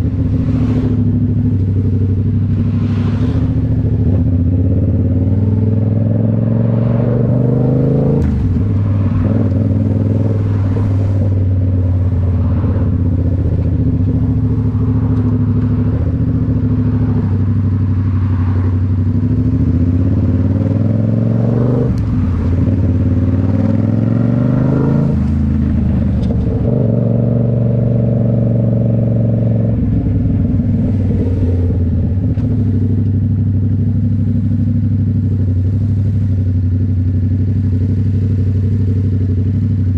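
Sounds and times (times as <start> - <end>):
motorcycle engine running: 0.0 - 6.2, 7.6 - 39.9.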